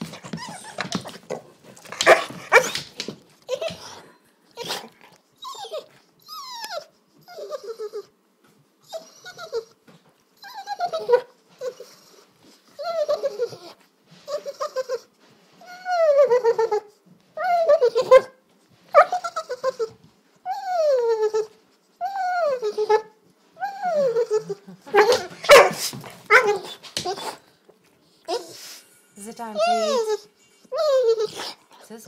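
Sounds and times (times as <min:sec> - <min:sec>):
dog whining and whimpering: 0:00.0 - 0:01.3, 0:03.5 - 0:08.2, 0:08.8 - 0:09.8, 0:10.4 - 0:25.7, 0:26.3 - 0:27.5, 0:28.1 - 0:31.8.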